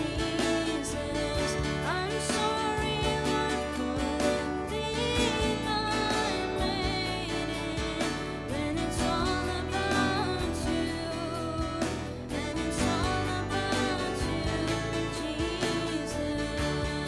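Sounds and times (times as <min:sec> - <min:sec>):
girl singing: 0:00.0 - 0:17.0
keyboard playing: 0:00.0 - 0:17.0
strummed acoustic guitar: 0:00.0 - 0:17.0.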